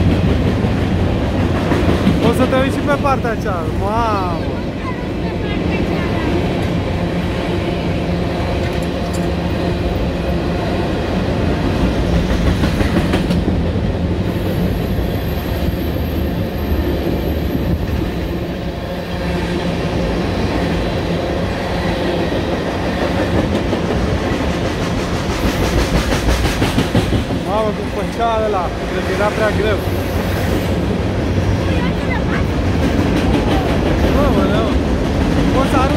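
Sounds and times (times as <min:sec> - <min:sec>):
freight train wheels on rails: 0:00.0 - 0:35.9.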